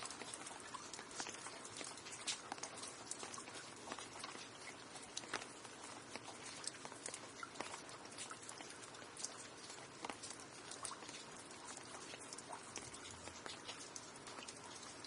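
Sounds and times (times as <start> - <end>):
raindrops pattering on surface: 0.0 - 15.0.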